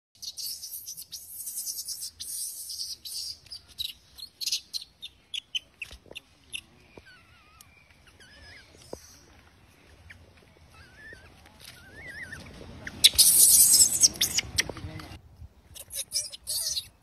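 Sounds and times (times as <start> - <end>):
small animal calls: 0.2 - 14.8, 15.7 - 17.0.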